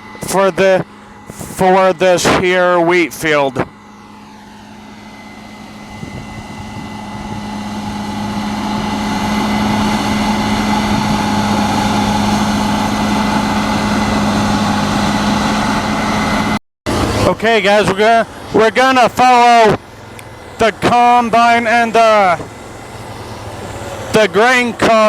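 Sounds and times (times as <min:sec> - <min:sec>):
combine harvester engine and machinery: 0:00.0 - 0:25.0.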